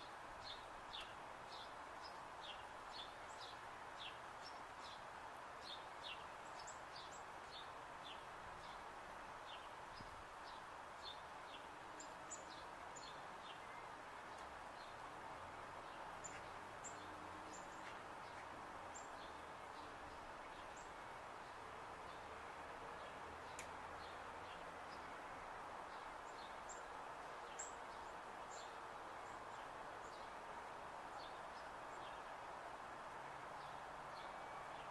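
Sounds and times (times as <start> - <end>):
faint outdoor background hiss: 0.0 - 34.9
small birds chirping: 0.4 - 15.2, 15.8 - 22.3, 23.0 - 25.2, 25.8 - 33.0.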